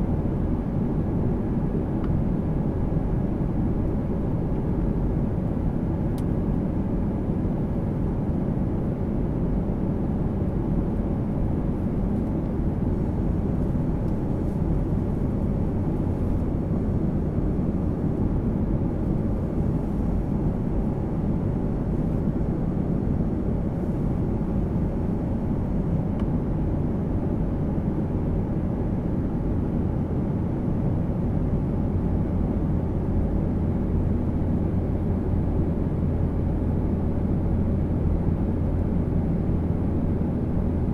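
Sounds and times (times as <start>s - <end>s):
jet airliner cabin roar: 0.0s - 40.9s.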